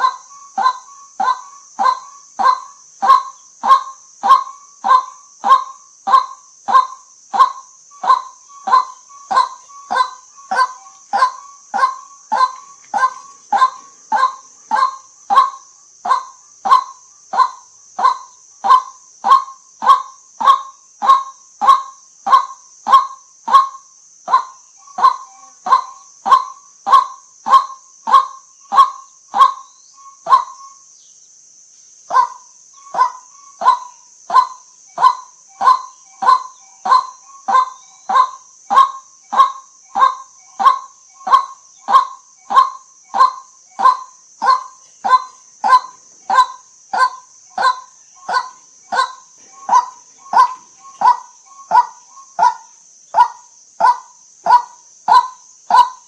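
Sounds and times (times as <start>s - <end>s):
waterhen honking calls: 0.0s - 23.7s, 24.3s - 29.6s, 32.1s - 52.6s
faint high hiss: 0.0s - 56.0s.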